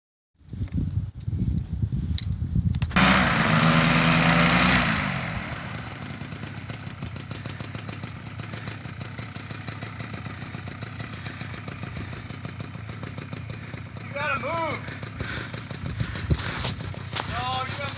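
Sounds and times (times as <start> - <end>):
paramotor engine running: 3.0 - 17.9.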